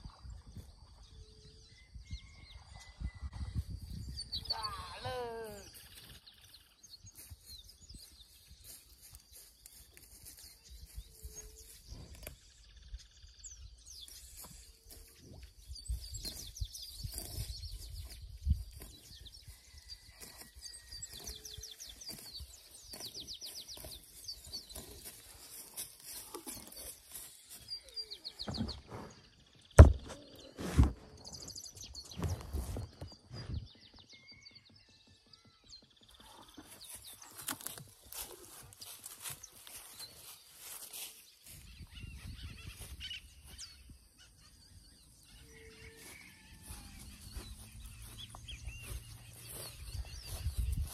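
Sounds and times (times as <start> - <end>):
birds chirping and trilling: 0.0 - 50.9.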